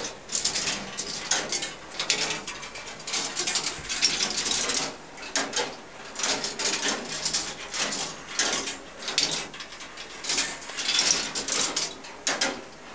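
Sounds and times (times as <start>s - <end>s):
balls rolling on metal tracks: 0.0s - 12.7s
metal gears clicking and clattering: 0.0s - 12.7s.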